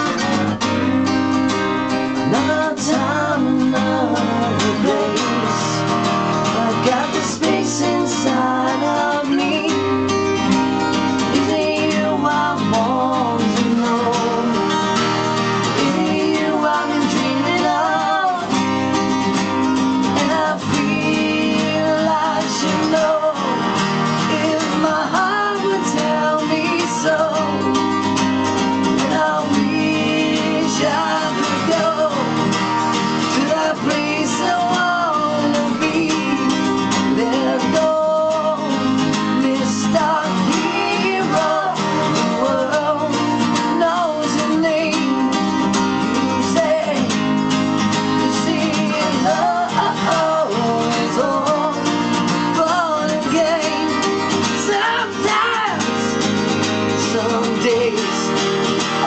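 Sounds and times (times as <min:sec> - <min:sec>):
man singing: 0:00.0 - 0:01.1, 0:02.1 - 0:59.0
acoustic guitars strumming: 0:00.0 - 0:59.0.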